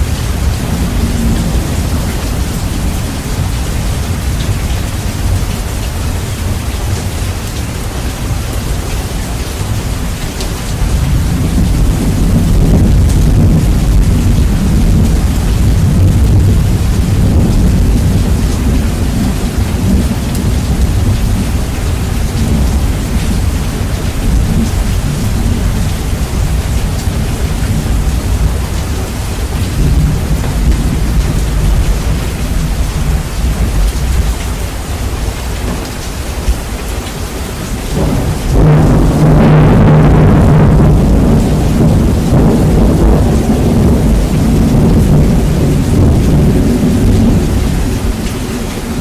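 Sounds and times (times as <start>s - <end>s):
rolling thunder: 0.0s - 8.9s, 9.5s - 36.8s, 37.8s - 49.0s
heavy rain: 0.0s - 49.0s.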